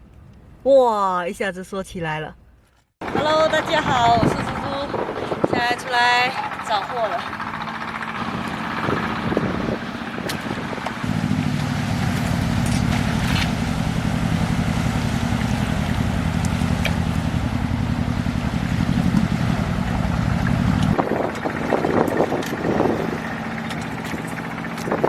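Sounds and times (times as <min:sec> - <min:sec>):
engine running steadily: 0:03.0 - 0:25.0.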